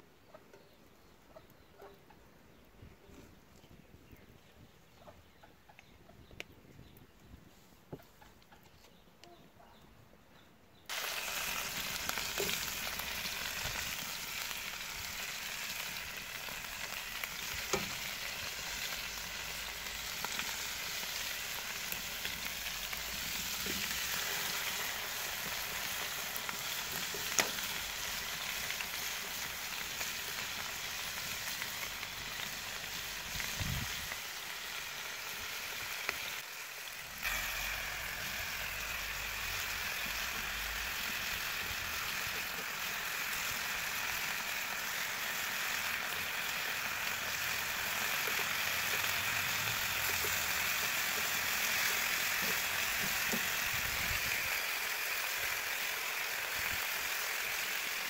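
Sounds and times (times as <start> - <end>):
chicken wings sizzling in oil: 10.9 - 58.0.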